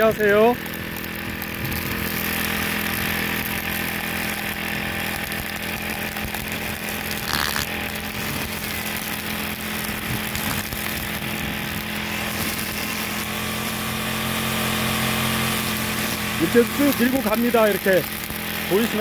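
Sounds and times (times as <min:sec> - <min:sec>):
brush cutter engine running: 0:00.0 - 0:19.0
blade cutting weeds: 0:01.0 - 0:19.0.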